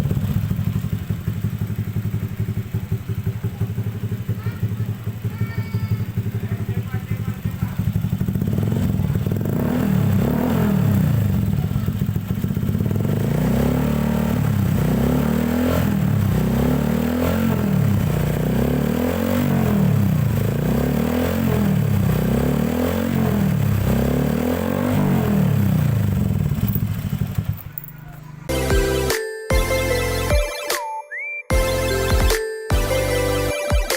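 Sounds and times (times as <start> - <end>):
scooter engine revving: 0.0 - 30.3.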